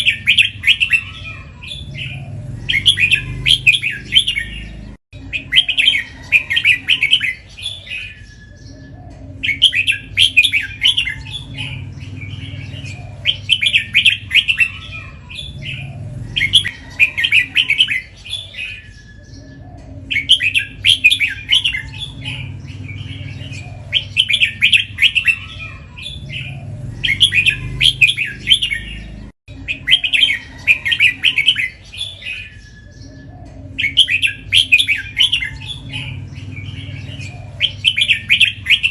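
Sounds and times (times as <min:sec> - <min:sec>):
bird singing bright phrases: 0:00.0 - 0:38.9.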